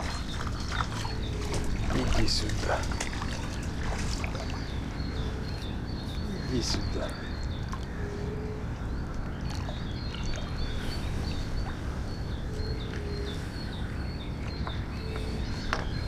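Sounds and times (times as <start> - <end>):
bird chirping: 0.0 - 16.0
low calls: 0.0 - 16.0.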